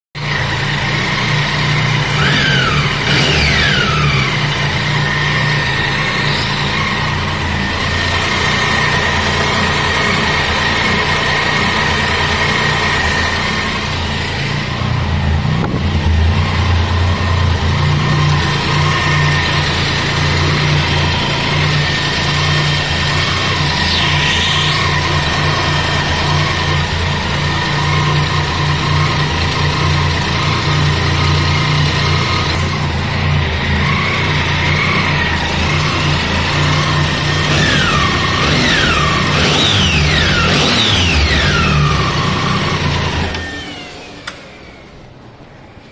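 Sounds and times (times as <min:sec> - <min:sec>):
motorcycle engine running: 0:00.1 - 0:44.8
high-pitched engine whine: 0:00.1 - 0:45.9.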